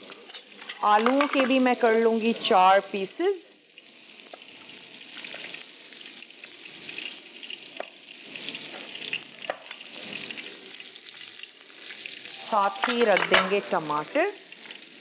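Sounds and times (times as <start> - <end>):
meat sizzling on grill pan: 0.0 - 15.0.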